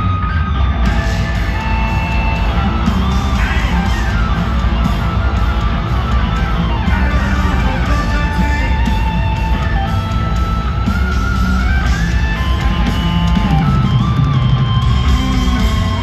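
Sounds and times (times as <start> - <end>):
live instrumental rock music: 0.0 - 16.0.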